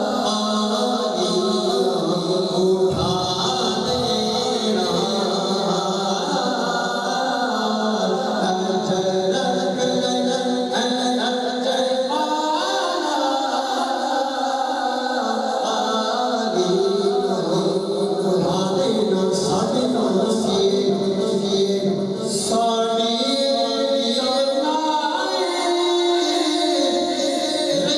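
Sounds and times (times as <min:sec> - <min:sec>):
group singing in chorus: 0:00.0 - 0:27.9
men singing devotional chant: 0:00.0 - 0:27.9.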